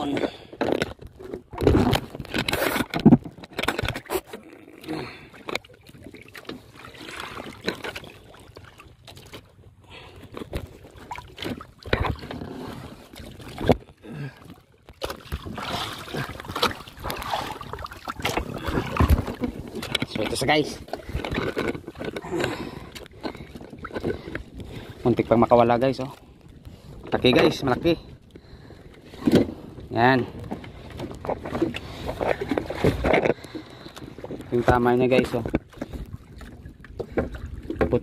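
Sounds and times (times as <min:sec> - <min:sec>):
water splashing against boat: 0:00.0 - 0:38.0.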